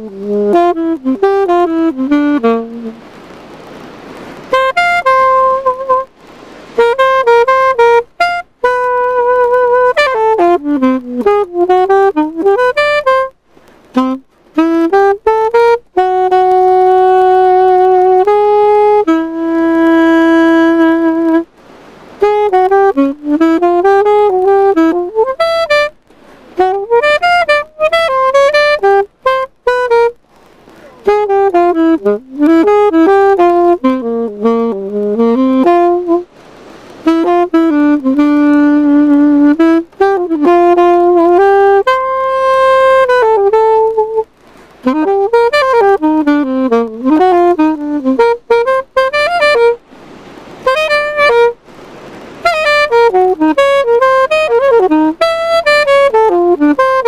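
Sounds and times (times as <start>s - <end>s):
alto saxophone melody: 0.0s - 57.0s.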